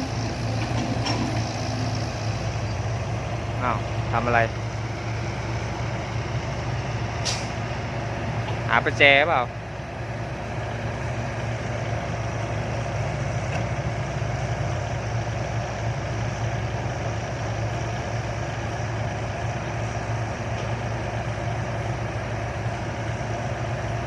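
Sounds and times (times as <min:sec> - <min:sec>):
heavy machinery diesel engine idling: 0:00.0 - 0:24.0.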